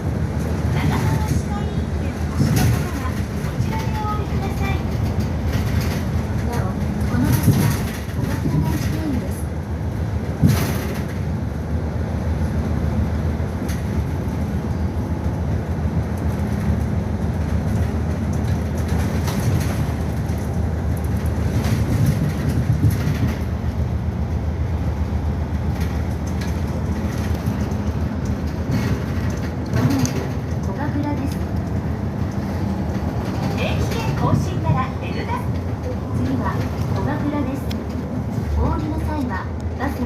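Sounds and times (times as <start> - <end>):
bus engine and road rumble: 0.0 - 40.0.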